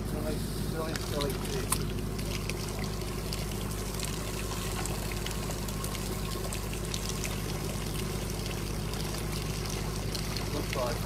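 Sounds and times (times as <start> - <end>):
boat motor humming: 0.0 - 11.0
water pouring and splashing: 0.2 - 11.0.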